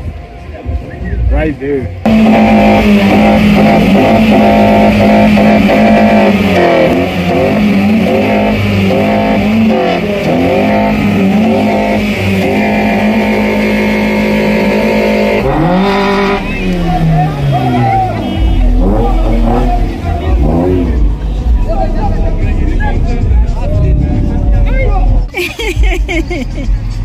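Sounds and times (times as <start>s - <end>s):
car engine at high revs: 2.0s - 24.6s.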